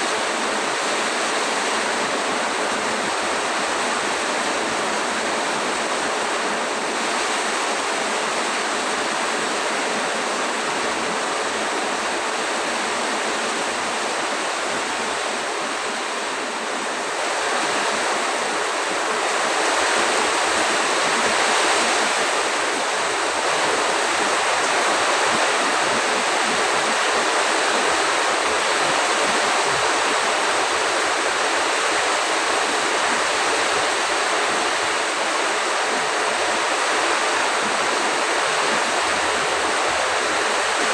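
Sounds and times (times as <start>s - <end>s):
heavy rain rushing: 0.0s - 40.9s
wind: 0.0s - 40.9s.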